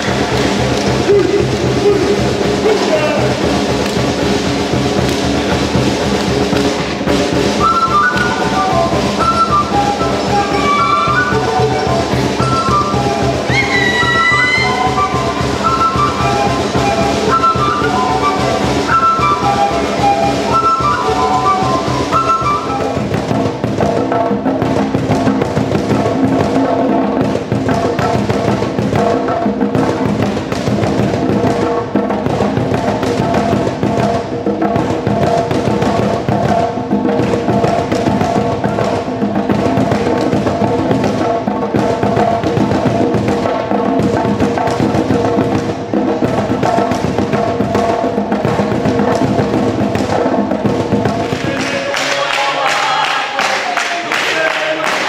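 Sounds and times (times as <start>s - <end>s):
hand drums playing rhythm: 0.0s - 55.0s.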